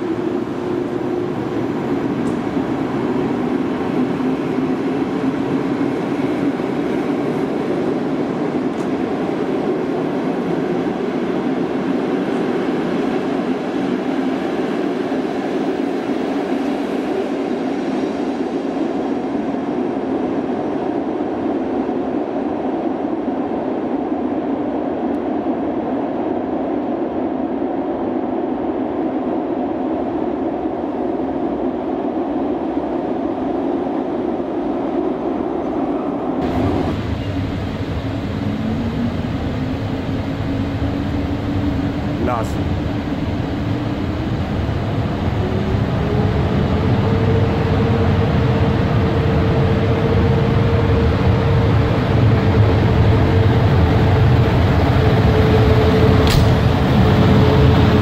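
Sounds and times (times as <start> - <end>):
electric locomotive approaching: 0.0 - 58.0
train rumbling on rails: 0.0 - 58.0.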